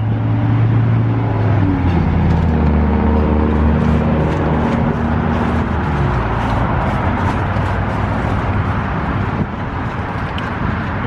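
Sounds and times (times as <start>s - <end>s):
cars passing: 0.0s - 11.0s
vehicle engine humming: 0.0s - 11.0s.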